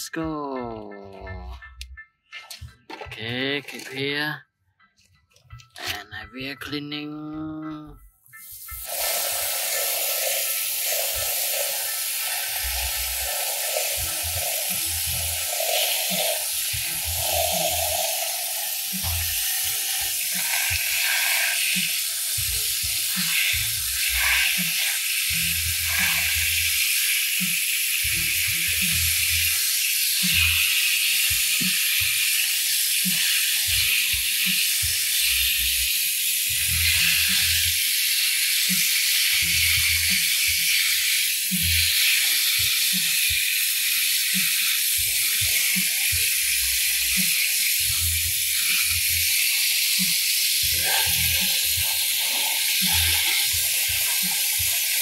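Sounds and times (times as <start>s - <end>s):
hose spray hissing: 8.3s - 55.0s
water jet striking plastic toys: 8.3s - 55.0s.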